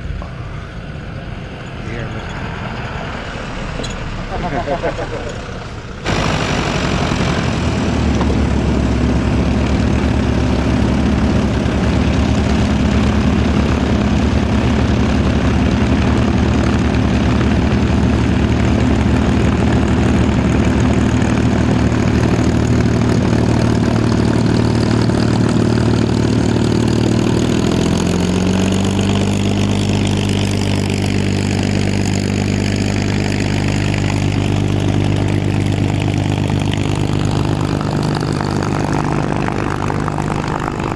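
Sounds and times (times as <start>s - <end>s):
propeller aircraft engine running: 0.0s - 40.9s.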